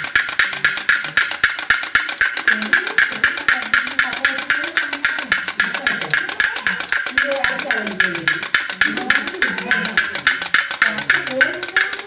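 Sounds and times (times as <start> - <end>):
fast clicking percussion beat: 0.0 - 12.0.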